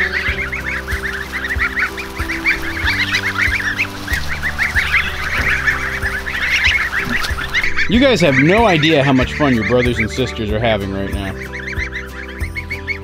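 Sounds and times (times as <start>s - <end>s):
goslings peeping: 0.0s - 13.0s.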